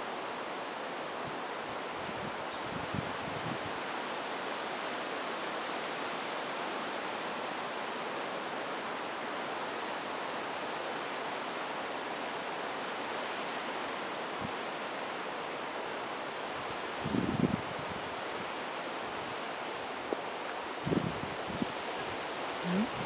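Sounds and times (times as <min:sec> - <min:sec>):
strong wind hiss: 0:00.0 - 0:23.0.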